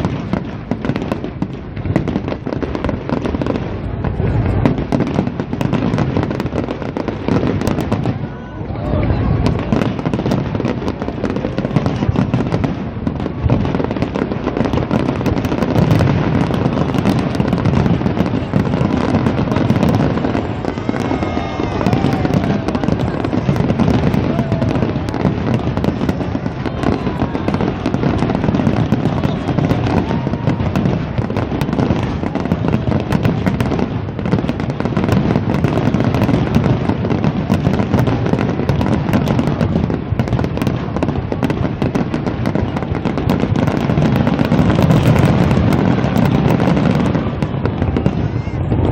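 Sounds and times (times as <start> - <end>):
firecrackers crackling: 0.0 - 48.9.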